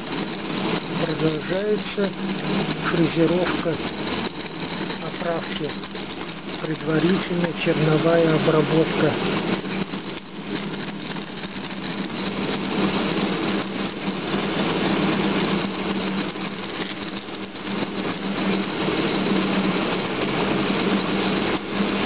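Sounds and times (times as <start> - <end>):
end mill cutting metal: 0.0 - 22.0
milling machine motor hum: 0.0 - 22.0.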